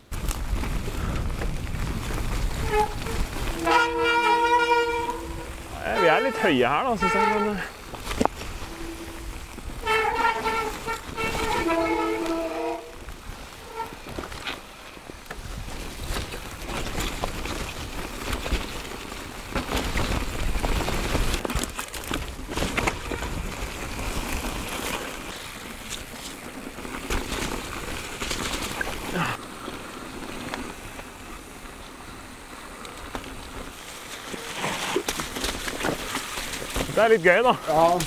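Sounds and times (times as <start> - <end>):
bike rattling and knocking: 0.0 - 31.6, 32.9 - 38.0
low wind rumble: 0.0 - 34.2
bike tyres over gravel and rock: 0.0 - 38.0.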